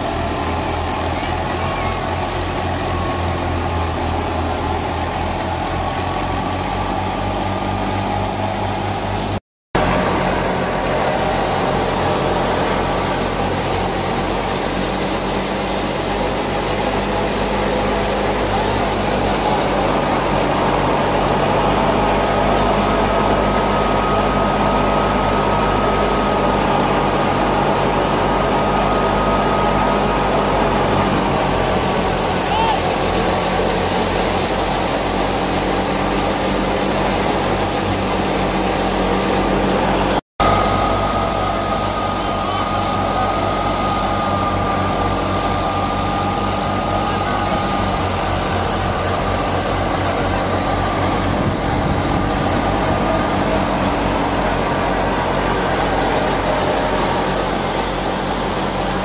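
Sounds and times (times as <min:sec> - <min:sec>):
diesel tractor engine running: 0:00.0 - 0:59.0
thresher whirring: 0:00.0 - 0:59.0.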